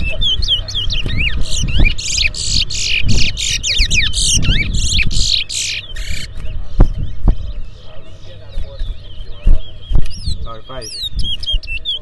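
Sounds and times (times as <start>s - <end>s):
seed finch singing: 0.0s - 12.0s.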